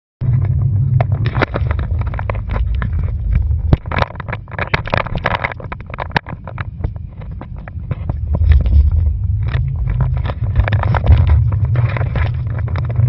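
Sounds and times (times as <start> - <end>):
low wind rumble: 0.2 - 13.0.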